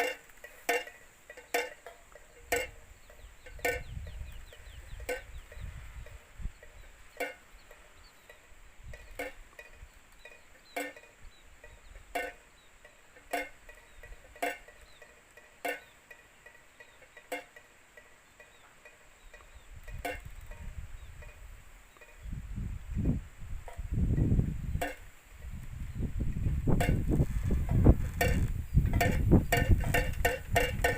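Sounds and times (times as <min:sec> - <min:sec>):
hollow ringing pipe clacks: 0:00.0 - 0:22.3, 0:23.6 - 0:30.9.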